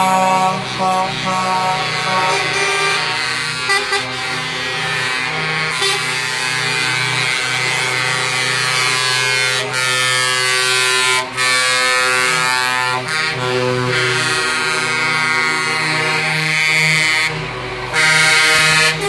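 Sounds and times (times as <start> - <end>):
truck air horns blowing: 0.0 - 19.0.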